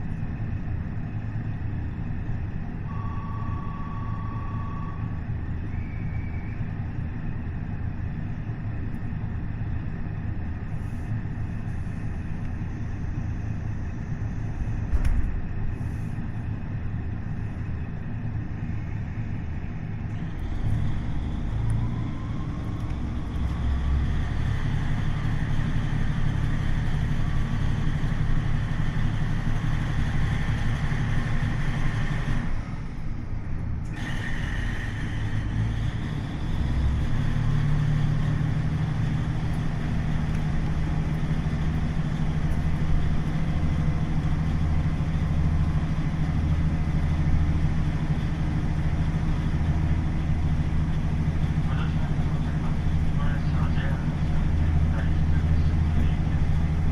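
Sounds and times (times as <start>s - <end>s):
diesel railcar rumble: 0.0s - 56.9s
steady engine whine: 0.0s - 56.9s.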